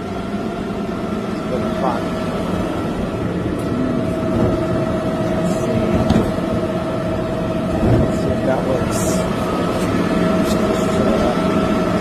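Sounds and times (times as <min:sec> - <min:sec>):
garbage truck engine running: 0:00.0 - 0:12.0
hydraulic pump whining: 0:00.0 - 0:12.0.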